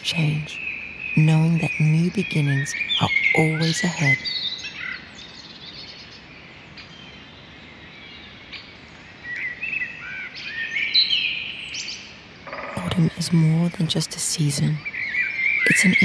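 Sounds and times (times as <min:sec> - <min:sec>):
birds chirping: 0:00.0 - 0:16.0
steady outdoor hiss: 0:00.0 - 0:16.0.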